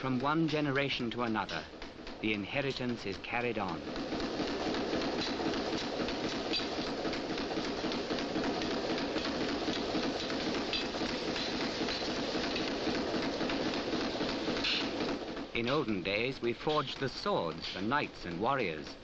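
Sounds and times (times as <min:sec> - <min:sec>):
dense mechanical clattering: 0:00.0 - 0:19.0.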